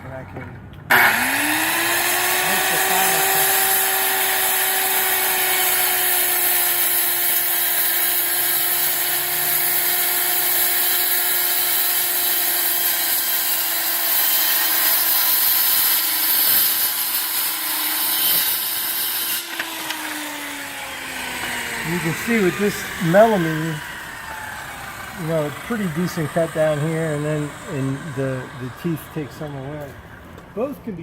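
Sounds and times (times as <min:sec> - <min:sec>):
circular saw cutting: 0:00.9 - 0:30.7.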